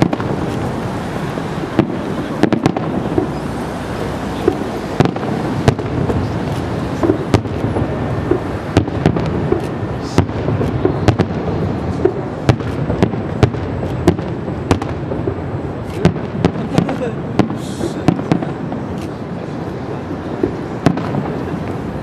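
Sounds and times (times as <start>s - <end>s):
firework shells bursting: 0.0s - 19.2s.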